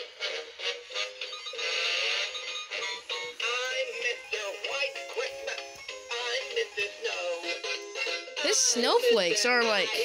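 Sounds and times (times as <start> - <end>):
toy playing song with vocals: 0.0 - 10.0.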